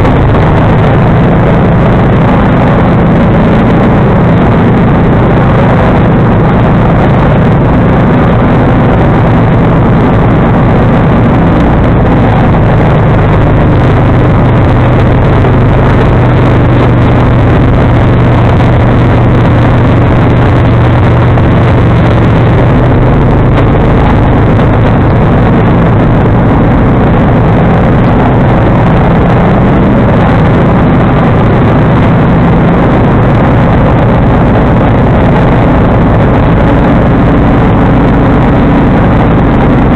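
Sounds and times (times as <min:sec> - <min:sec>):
garden tractor engine droning: 0:00.0 - 0:39.9.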